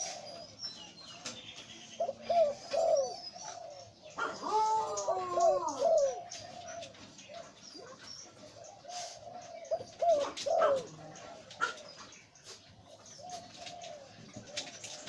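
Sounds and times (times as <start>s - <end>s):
dove cooing: 0.0s - 1.3s, 1.9s - 15.0s.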